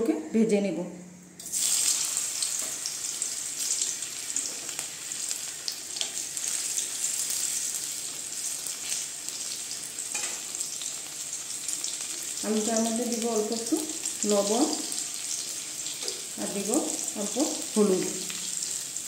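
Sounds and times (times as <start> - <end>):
potatoes sizzling in hot oil: 1.4 - 19.0.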